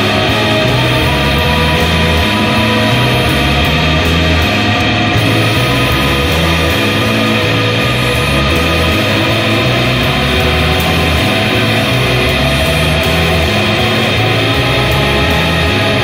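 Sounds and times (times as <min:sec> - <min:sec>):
shoegaze rock music: 0:00.0 - 0:16.0.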